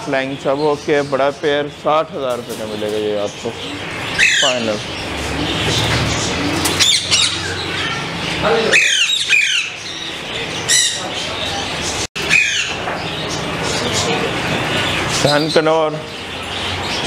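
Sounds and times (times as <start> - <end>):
parrots squawking: 0.3 - 17.0.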